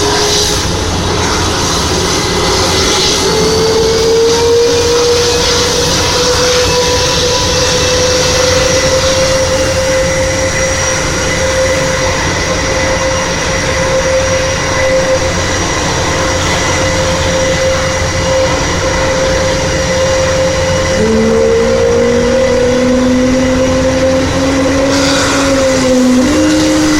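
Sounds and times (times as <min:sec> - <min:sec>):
aircraft engines rushing: 0:00.0 - 0:26.9
high engine whine: 0:00.0 - 0:26.9.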